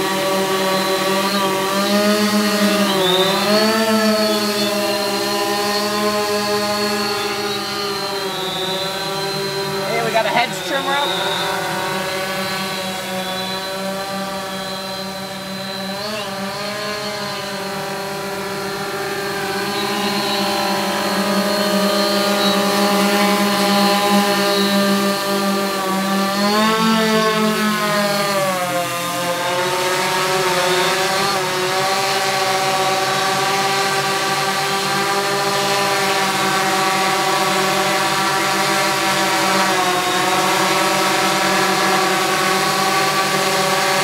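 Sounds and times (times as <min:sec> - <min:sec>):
drone motors humming: 0:00.0 - 0:44.0.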